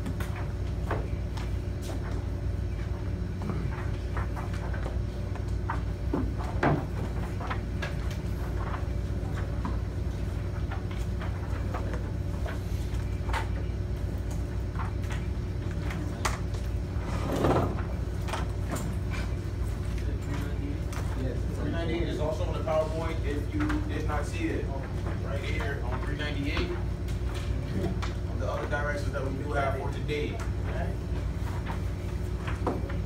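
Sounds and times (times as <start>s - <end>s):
rustling papers: 0.0s - 33.0s
ventilation and projector hum: 0.0s - 33.0s.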